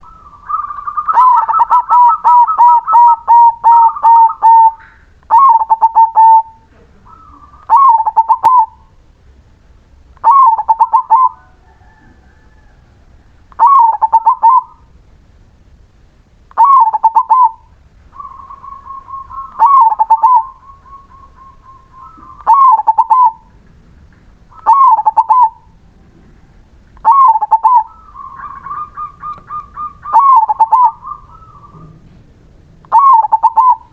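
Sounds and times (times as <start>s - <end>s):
dove cooing: 0.0s - 9.0s, 10.2s - 15.0s, 16.6s - 33.9s.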